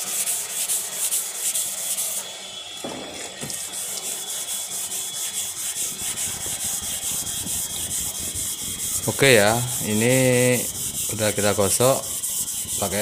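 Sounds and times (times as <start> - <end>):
sandpaper rasping on filler: 0.0 - 13.0.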